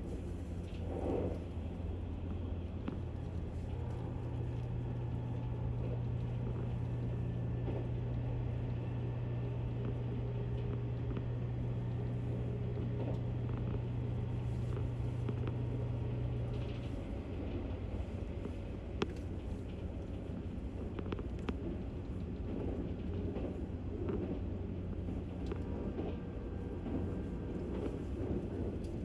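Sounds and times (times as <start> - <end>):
electric train rumble: 0.0 - 29.0.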